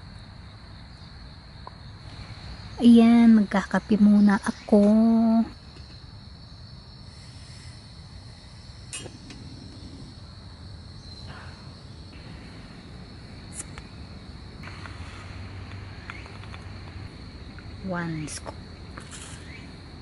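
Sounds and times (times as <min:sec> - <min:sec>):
high insect trill: 0:00.0 - 0:20.0
low background hum: 0:00.0 - 0:20.0.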